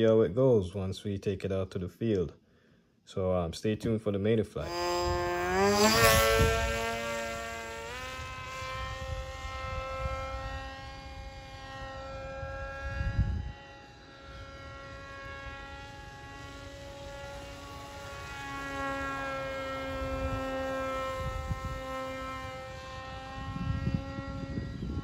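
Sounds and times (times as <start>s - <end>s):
electric motor and propeller whining: 4.6s - 25.0s
wind rumble on microphone: 4.6s - 25.0s.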